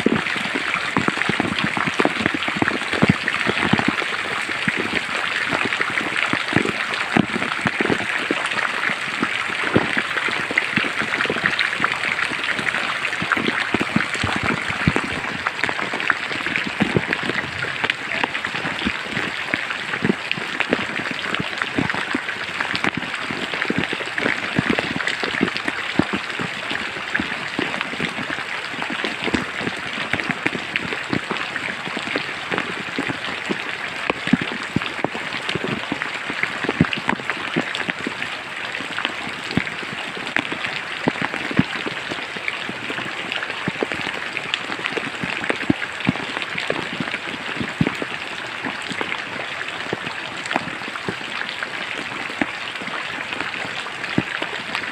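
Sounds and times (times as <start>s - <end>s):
raindrops striking close by: 0.0s - 54.9s
steady rain hiss: 0.0s - 54.9s.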